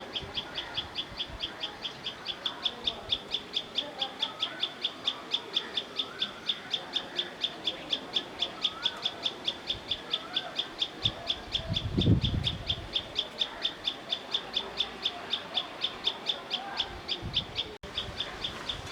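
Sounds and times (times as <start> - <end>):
birds warbling: 0.0 - 18.9.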